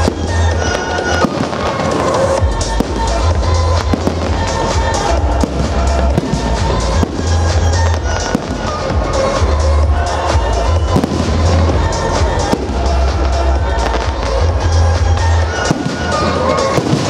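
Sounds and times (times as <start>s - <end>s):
fireworks bursting: 0.0s - 17.0s
loud music with heavy bass: 0.0s - 17.0s.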